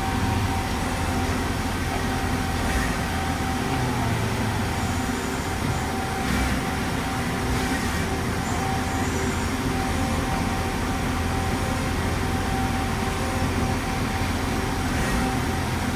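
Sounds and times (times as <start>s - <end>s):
lathe spindle running with whine: 0.0s - 15.9s.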